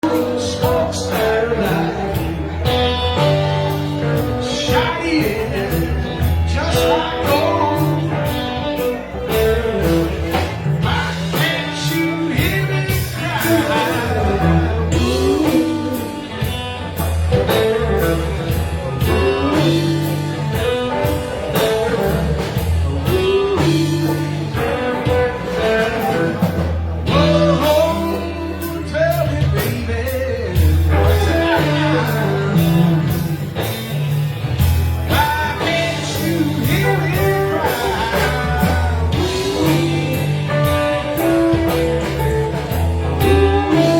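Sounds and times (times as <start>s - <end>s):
live blues band playing: 0.0s - 43.9s
person singing: 0.0s - 43.9s.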